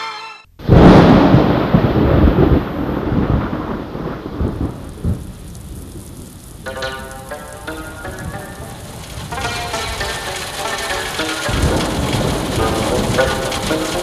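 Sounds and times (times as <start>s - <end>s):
thunderclap and rumbling: 0.6s - 14.0s.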